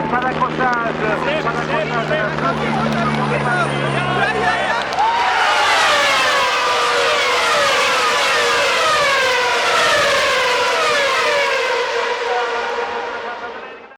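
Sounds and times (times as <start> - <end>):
racing cars passing at high revs: 0.1 - 13.9.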